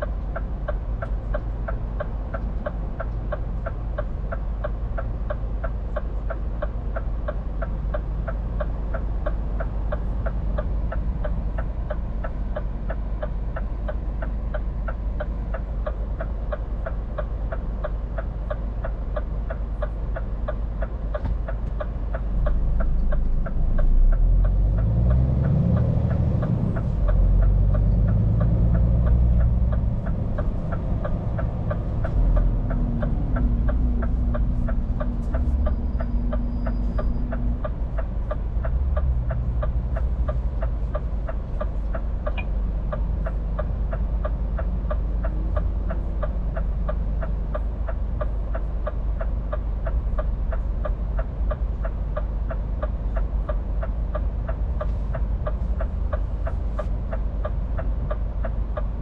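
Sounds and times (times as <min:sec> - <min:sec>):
diesel truck engine drone: 0:00.0 - 0:59.0
turn signal relay ticking: 0:00.0 - 0:59.0.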